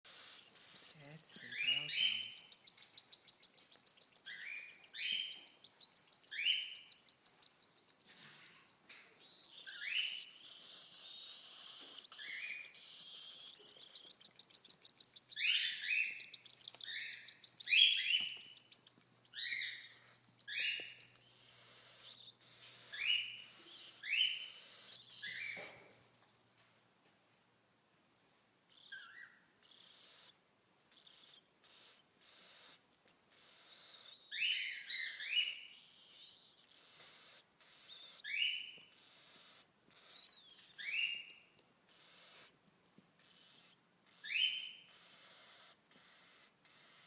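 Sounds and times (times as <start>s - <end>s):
cockatiel chirps: 0.0s - 8.4s, 9.2s - 26.0s, 28.7s - 42.6s, 43.2s - 47.0s.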